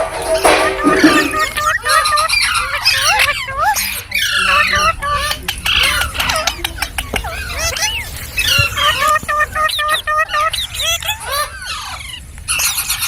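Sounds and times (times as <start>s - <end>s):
parrots chirping and chattering: 0.0s - 13.0s.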